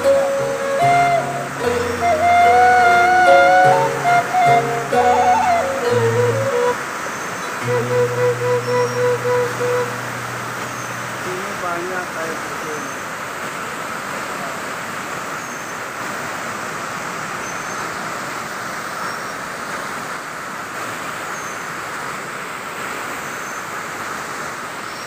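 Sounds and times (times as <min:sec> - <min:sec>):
water cascading over rocks: 0:00.0 - 0:25.0.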